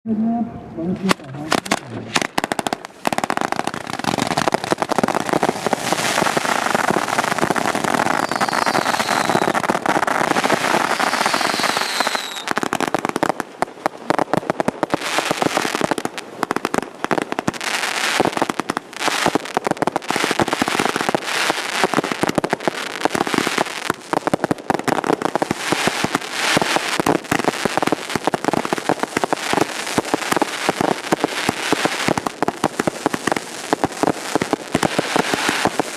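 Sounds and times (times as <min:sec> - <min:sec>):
fireworks banging and crackling: 0:01.0 - 0:35.9.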